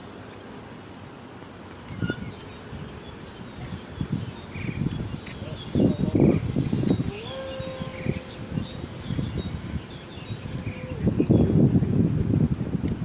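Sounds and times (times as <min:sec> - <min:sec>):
steady thin high tone: 0:00.0 - 0:13.0
insect chirps: 0:00.9 - 0:11.6
wind buffeting microphone: 0:01.8 - 0:13.0.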